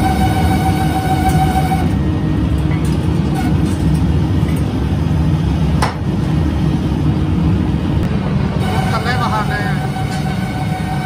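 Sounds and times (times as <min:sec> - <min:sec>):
workshop machinery rumbling: 0:00.0 - 0:11.0.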